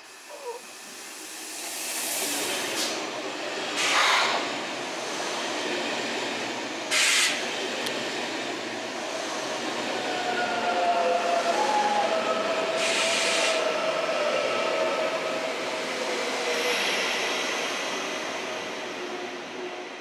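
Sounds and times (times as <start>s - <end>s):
train rushing past: 0.0s - 20.0s.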